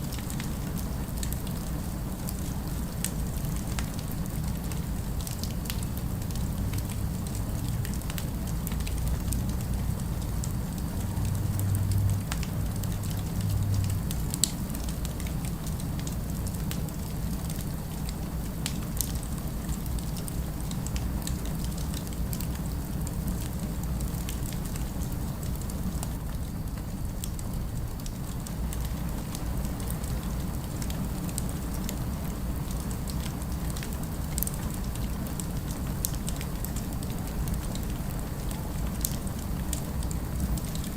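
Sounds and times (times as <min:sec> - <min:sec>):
fire crackling and popping: 0:00.0 - 0:40.9
low city rumble: 0:00.0 - 0:40.9.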